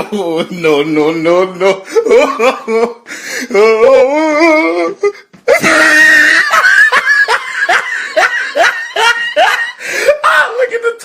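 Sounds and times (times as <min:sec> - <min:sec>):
person laughing: 0:01.6 - 0:10.4.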